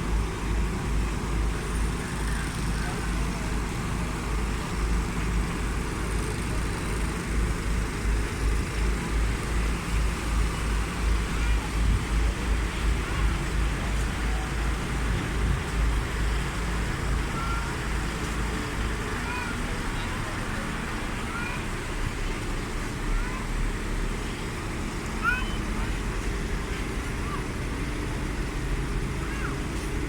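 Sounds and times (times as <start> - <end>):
vehicle engine drone: 0.0 - 30.0.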